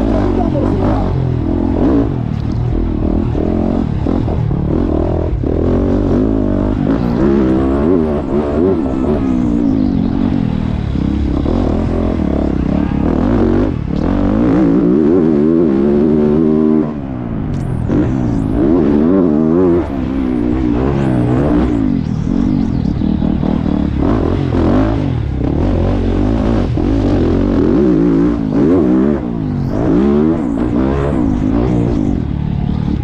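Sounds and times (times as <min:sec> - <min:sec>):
motorbike engine revving: 0:00.0 - 0:33.0.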